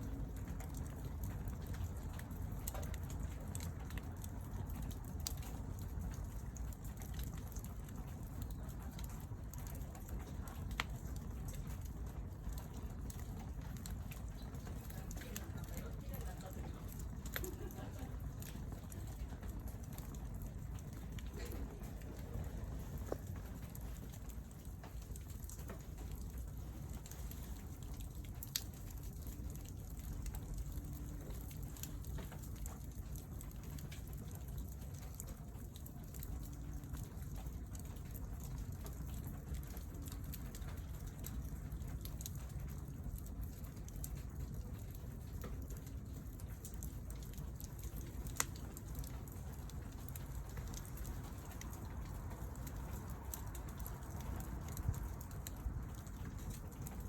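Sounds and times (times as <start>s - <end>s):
low steady rumble: 0.0s - 57.0s
wood fire crackling: 0.0s - 57.0s.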